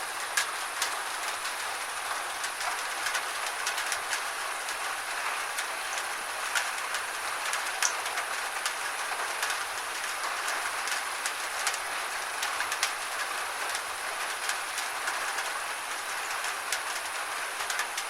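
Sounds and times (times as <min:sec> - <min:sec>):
rain hiss: 0:00.0 - 0:18.0.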